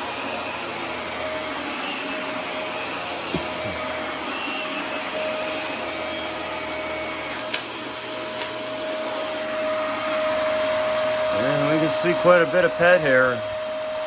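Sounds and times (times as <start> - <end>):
vacuum cleaner whine: 0.0 - 14.0.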